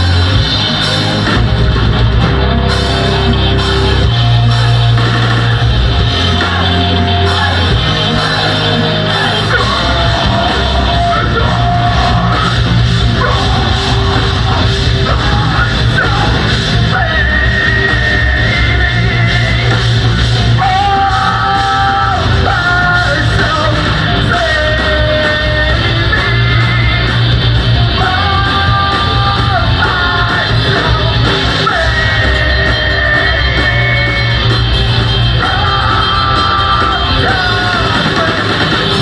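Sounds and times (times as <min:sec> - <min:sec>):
distorted guitars: 0:00.0 - 0:39.0
drum kit: 0:00.0 - 0:39.0.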